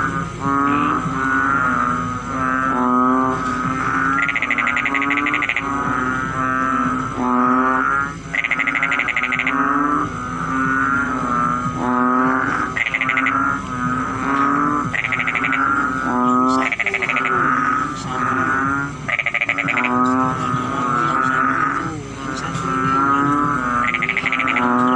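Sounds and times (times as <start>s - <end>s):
frogs droning croaks: 0.0s - 24.9s
frogs rapid pulsed calls: 0.0s - 24.9s.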